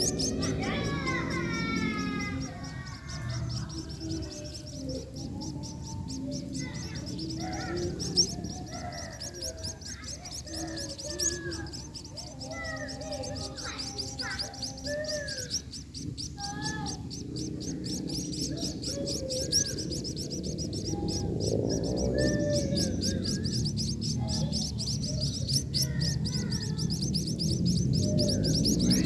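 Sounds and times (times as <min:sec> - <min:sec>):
lower bird call: 0:00.0 - 0:29.0
small birds chirping: 0:00.0 - 0:29.0.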